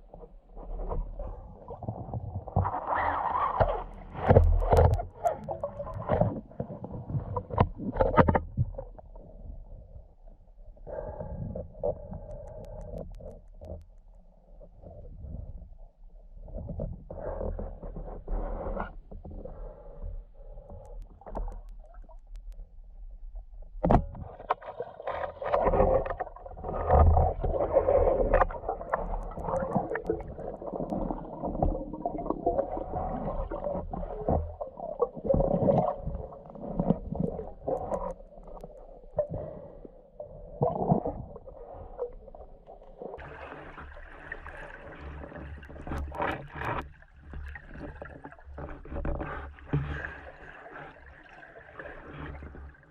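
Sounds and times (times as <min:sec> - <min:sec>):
underwater gurgling: 0:00.0 - 0:10.0, 0:10.9 - 0:15.6, 0:16.4 - 0:52.9.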